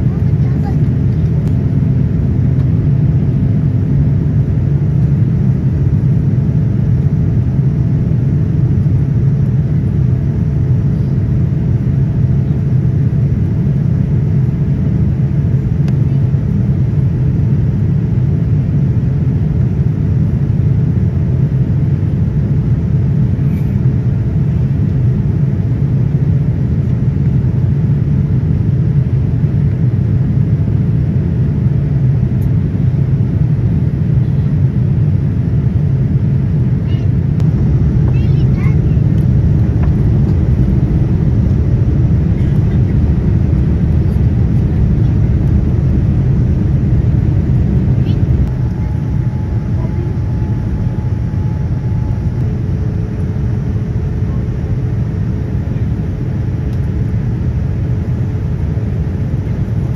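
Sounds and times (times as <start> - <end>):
engine and airflow rumble: 0.0 - 59.9
faint steady hum: 0.0 - 59.9.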